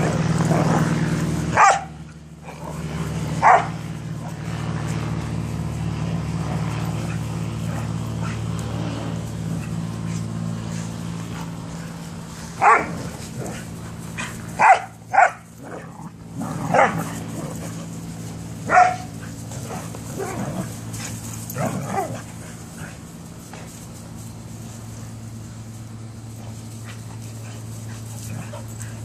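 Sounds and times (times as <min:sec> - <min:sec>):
dogs barking in play: 0:00.0 - 0:29.0
steady low hum: 0:00.0 - 0:29.0.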